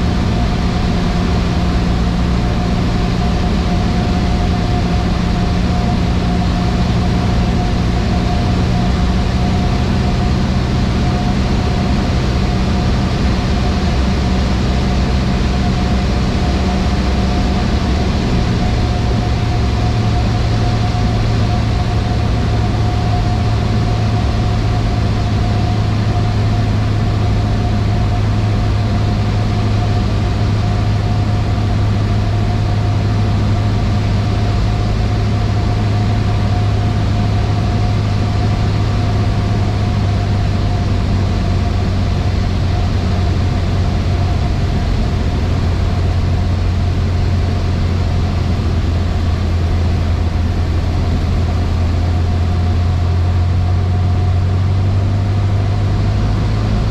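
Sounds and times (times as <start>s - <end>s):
airplane engine and propeller drone: 0.0s - 56.9s.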